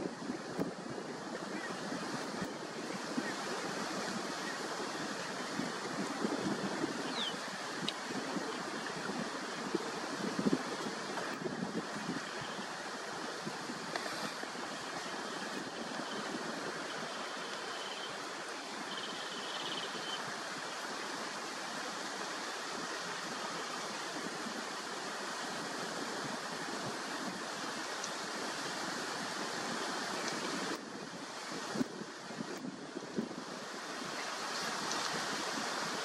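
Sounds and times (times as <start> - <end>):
river water rushing: 1.1 - 36.0.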